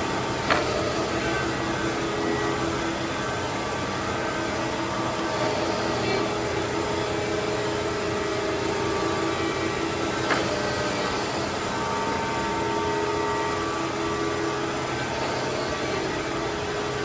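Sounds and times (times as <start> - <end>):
surface grinder humming: 0.0 - 17.0.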